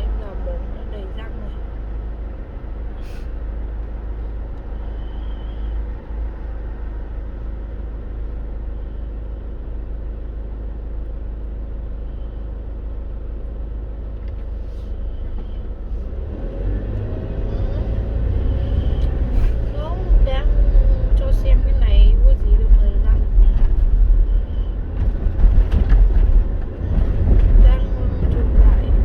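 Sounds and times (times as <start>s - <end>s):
road and engine rumble in car: 0.0s - 29.0s.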